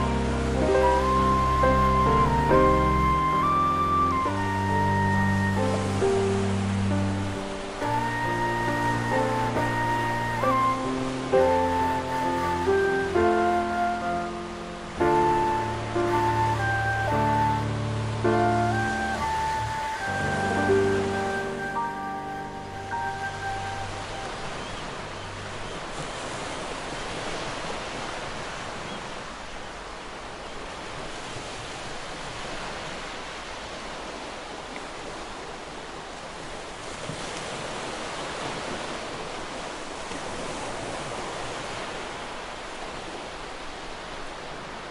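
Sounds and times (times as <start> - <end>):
ocean waves washing: 0.0 - 44.9.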